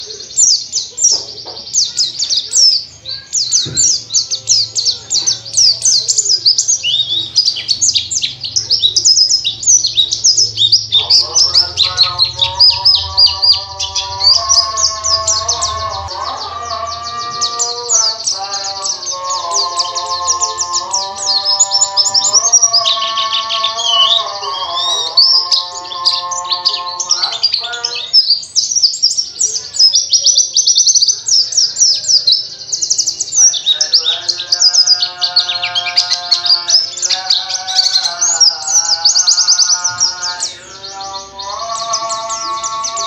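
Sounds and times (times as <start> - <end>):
bird singing high chirps: 0.0 - 43.0.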